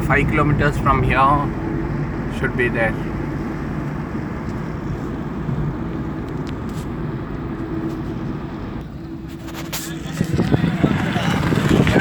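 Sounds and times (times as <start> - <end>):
car engine: 0.0 - 12.0
tyres on road: 0.0 - 12.0.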